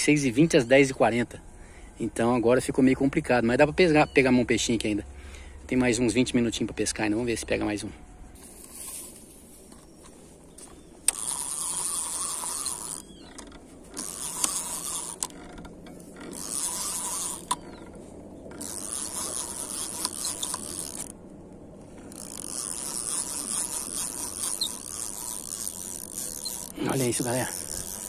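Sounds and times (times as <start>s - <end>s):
fishing reel whirring: 0.0s - 28.0s.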